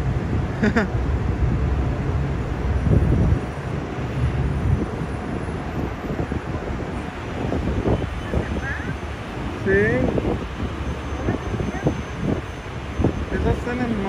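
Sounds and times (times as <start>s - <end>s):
heavy vehicle engine rumble: 0.0s - 14.0s.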